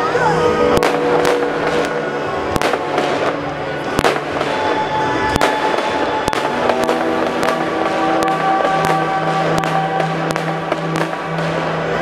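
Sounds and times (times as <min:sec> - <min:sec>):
music playing: 0:00.0 - 0:12.0
fireworks bangs: 0:00.6 - 0:12.0
fireworks crackle: 0:00.6 - 0:12.0.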